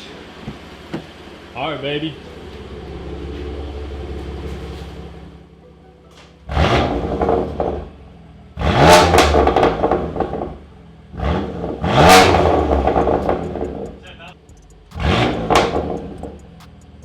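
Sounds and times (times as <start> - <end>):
car engine revving: 0.0 - 5.5, 6.4 - 17.0.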